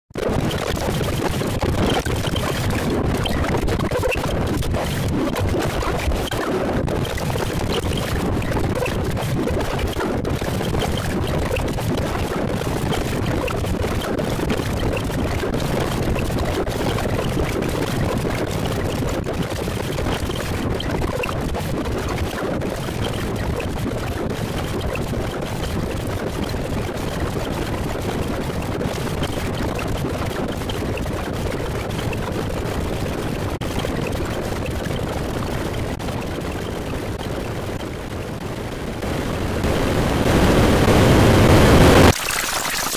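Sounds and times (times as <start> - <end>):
harsh distorted noise: 0.2 - 42.9.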